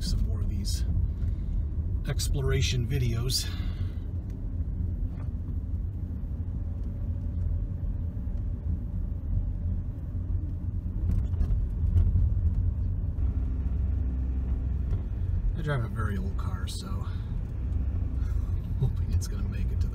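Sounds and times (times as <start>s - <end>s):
car engine and tyre rumble: 0.0s - 19.9s.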